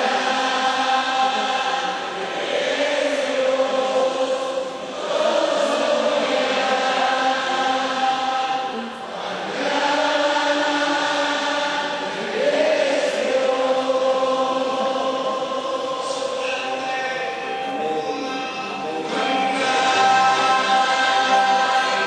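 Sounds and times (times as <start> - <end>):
worship song singing: 0.0 - 22.0.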